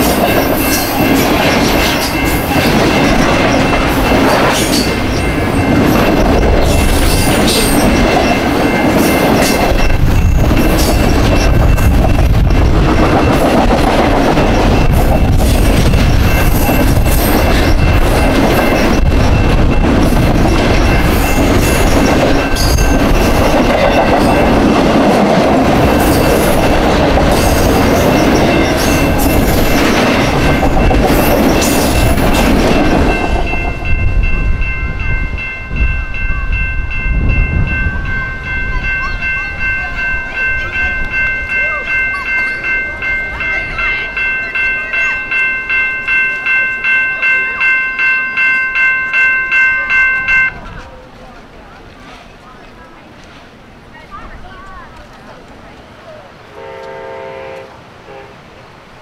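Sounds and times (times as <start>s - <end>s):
crossing bell ringing: 0.0s - 51.1s
train wheels clattering on rails: 0.0s - 53.6s.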